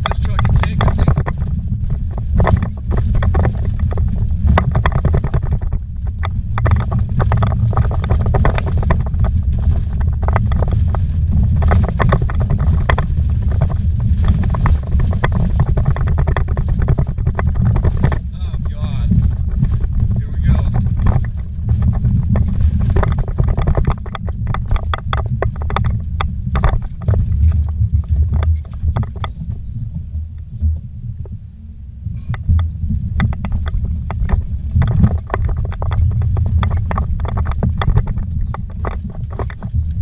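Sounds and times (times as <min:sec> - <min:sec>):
knocks and rattles over rocks: 0:00.0 - 0:31.4, 0:32.2 - 0:40.0
engine and tyre rumble: 0:00.0 - 0:40.0.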